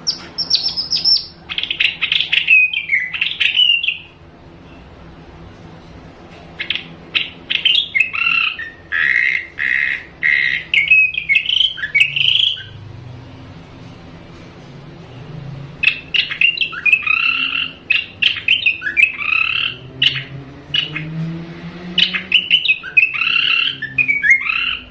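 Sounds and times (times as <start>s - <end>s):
birds calling: 0.0s - 4.4s, 6.4s - 13.3s, 15.0s - 24.9s.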